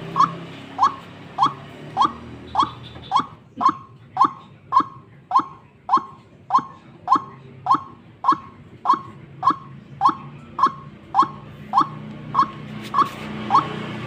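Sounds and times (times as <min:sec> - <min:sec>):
waterhen calling: 0:00.0 - 0:13.9.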